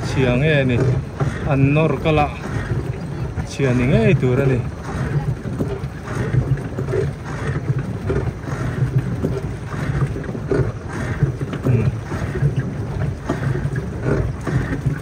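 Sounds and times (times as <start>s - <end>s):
water rumbling against boat hull: 0.0s - 15.0s
wind buffeting microphone: 0.0s - 15.0s.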